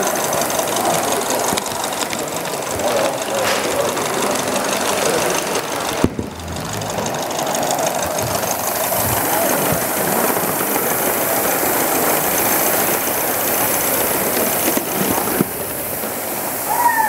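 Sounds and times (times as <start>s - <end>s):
model steam locomotive running: 0.0s - 17.0s.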